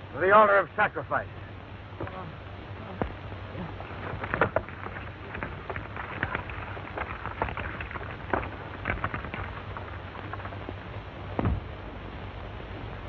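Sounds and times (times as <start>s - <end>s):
film soundtrack hum: 0.0s - 13.0s.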